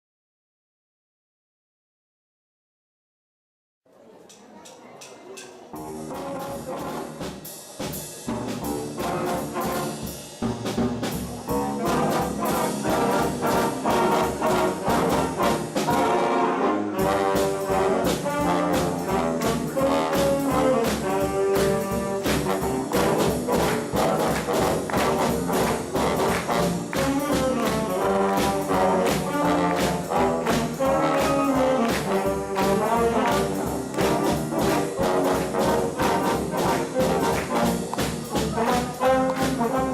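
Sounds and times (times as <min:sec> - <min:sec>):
jazz band playing: 0:05.7 - 0:39.9
trumpets and trombones: 0:05.7 - 0:39.9
steady drum beat: 0:05.8 - 0:39.9.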